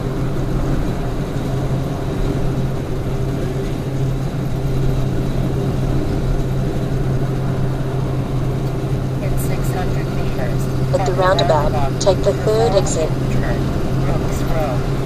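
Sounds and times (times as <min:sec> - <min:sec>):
truck engine and tyres cruising: 0:00.0 - 0:15.0.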